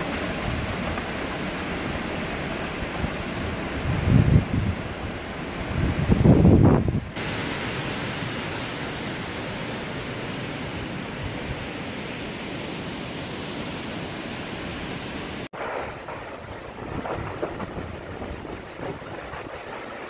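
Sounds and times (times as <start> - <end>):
storm wind through trees: 0.0 - 20.0.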